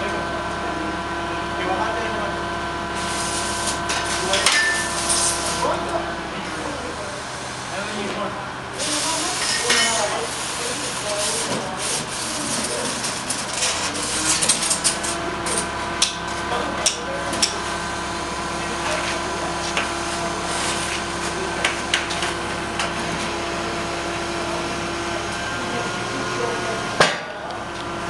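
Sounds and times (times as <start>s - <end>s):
forklift humming and whining: 0.0s - 9.4s, 10.0s - 28.0s.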